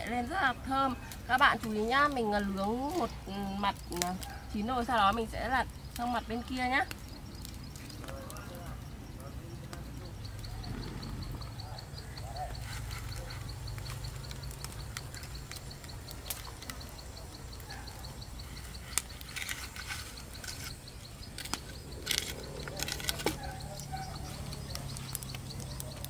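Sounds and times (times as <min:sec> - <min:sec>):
fire crackling and snapping: 0:00.0 - 0:26.0.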